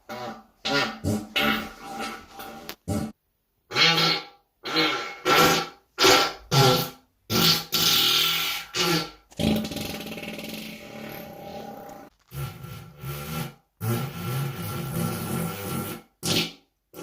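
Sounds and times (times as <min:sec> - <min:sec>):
person farting: 0:00.0 - 0:17.0.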